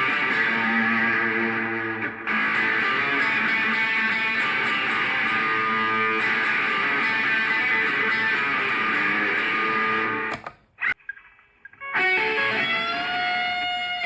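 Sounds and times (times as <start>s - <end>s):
electric guitar chords: 0.0s - 10.5s, 11.8s - 14.0s.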